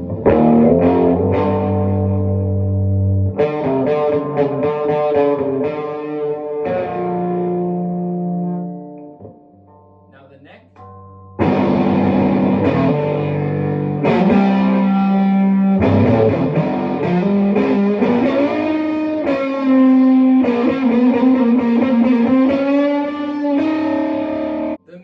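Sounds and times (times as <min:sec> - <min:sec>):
clean electric guitar: 0:00.0 - 0:25.0.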